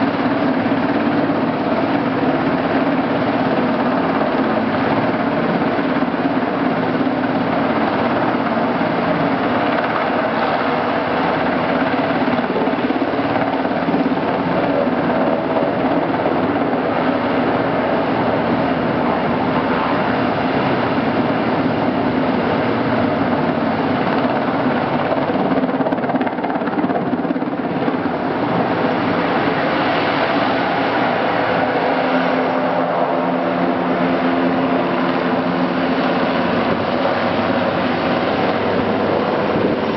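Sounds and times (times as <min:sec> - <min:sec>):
helicopter turbines and rotors: 0:00.0 - 0:39.9.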